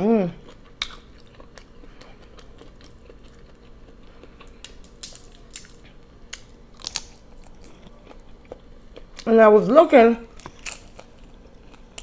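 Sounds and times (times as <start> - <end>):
person chewing: 0.4 - 9.3, 10.3 - 12.0.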